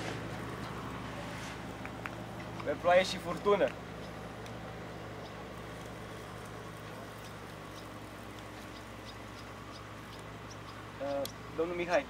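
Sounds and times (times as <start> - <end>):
low background noise: 0.0 - 12.0
light rain pattering: 1.8 - 11.4.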